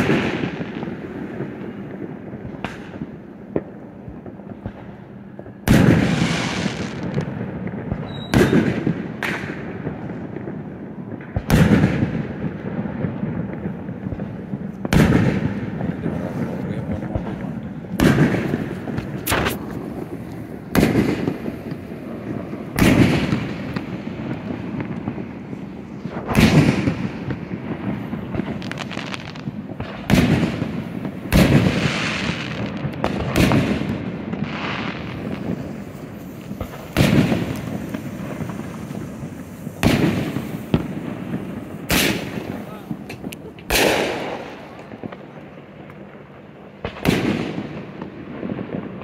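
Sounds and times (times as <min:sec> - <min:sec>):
fireworks booming: 0:00.0 - 0:49.0.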